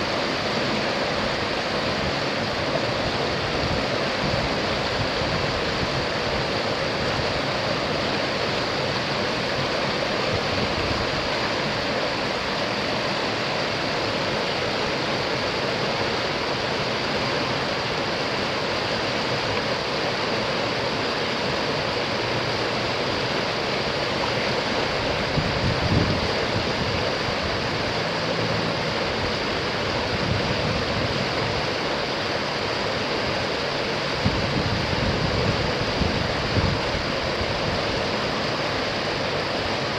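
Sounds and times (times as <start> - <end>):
river water rushing over rapids: 0.0 - 39.9.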